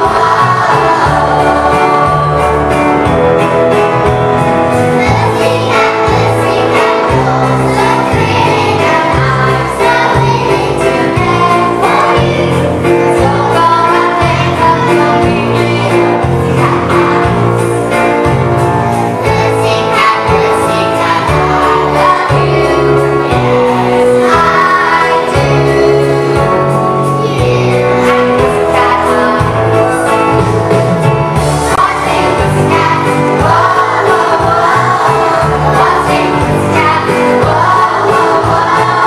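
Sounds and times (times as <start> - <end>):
children singing in unison: 0.0 - 3.4, 4.7 - 30.4, 31.5 - 39.0
moving bass line: 0.0 - 39.0.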